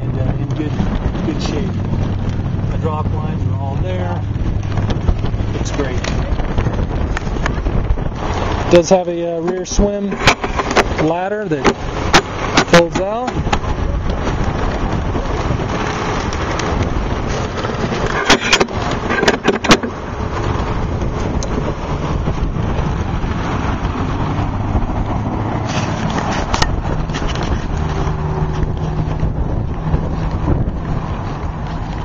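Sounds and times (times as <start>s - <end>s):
low engine hum: 0.0s - 32.0s
road traffic rumble: 0.0s - 32.0s.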